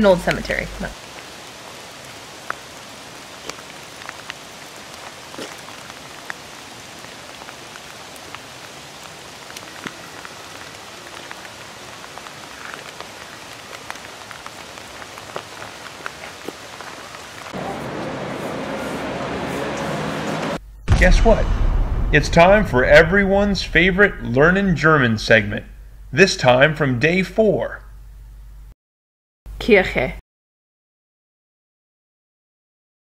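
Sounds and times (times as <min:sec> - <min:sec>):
rain hiss: 0:00.0 - 0:26.6.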